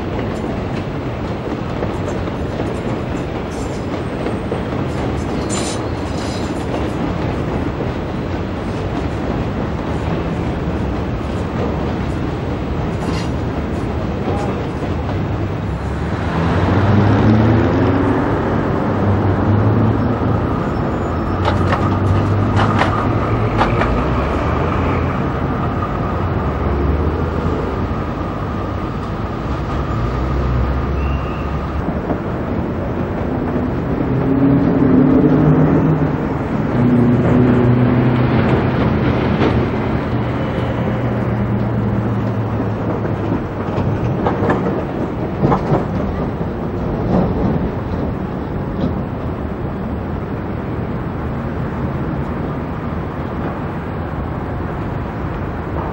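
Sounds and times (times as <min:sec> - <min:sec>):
wheels clicking over rail joints: 0:00.0 - 0:16.2, 0:20.2 - 0:34.9, 0:36.0 - 0:55.9
train wheels rumbling on rails: 0:00.0 - 0:55.9.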